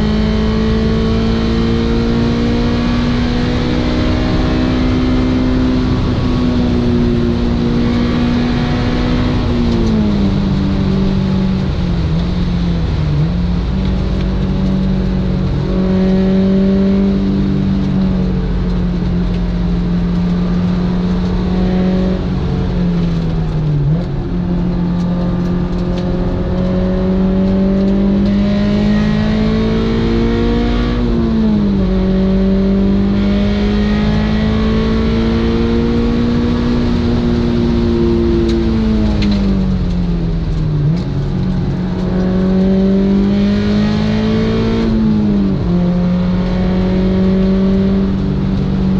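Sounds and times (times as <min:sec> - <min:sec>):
car engine and exhaust: 0:00.0 - 0:48.9.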